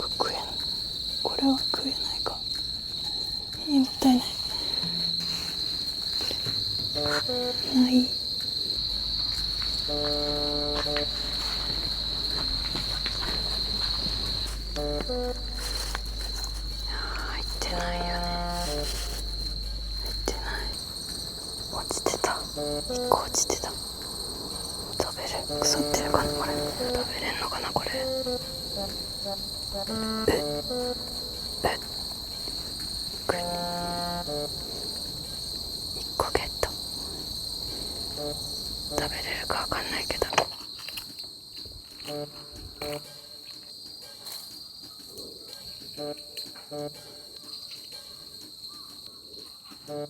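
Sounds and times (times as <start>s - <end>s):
crickets chirring: 0.0s - 50.0s
soft background music: 3.6s - 36.7s, 38.1s - 40.4s, 42.0s - 50.0s.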